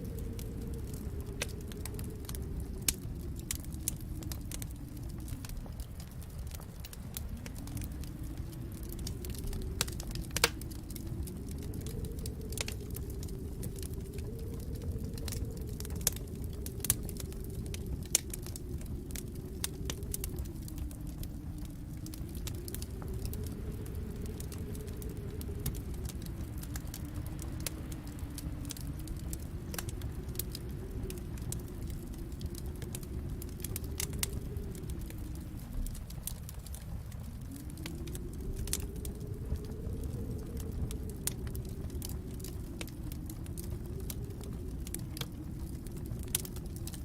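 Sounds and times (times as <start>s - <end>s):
fire popping and snapping: 0.0s - 47.0s
low fire rumble: 0.0s - 47.0s
wood fire crackling: 0.0s - 47.0s.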